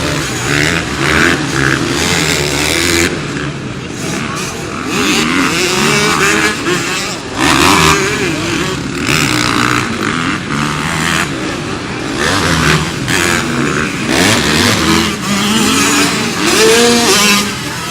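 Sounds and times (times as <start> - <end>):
motorcycle engines revving: 0.0 - 17.9.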